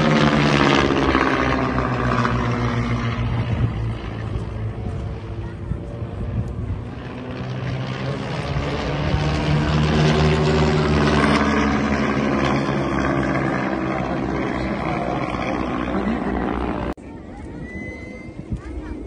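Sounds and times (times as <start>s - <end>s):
propeller aircraft droning overhead: 0.0s - 19.0s.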